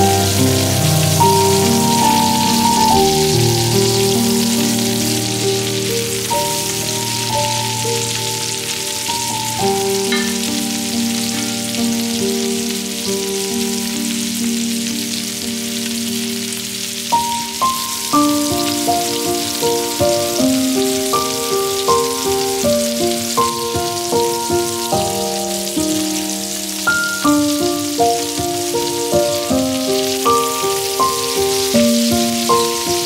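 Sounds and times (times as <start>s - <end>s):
meat sizzling in a pan: 0.0s - 33.0s
soft background music: 0.0s - 33.0s.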